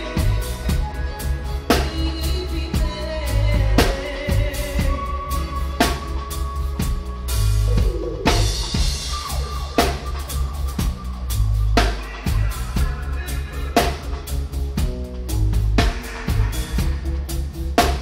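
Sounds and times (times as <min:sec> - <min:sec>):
live reggae band playing: 0:00.0 - 0:18.0.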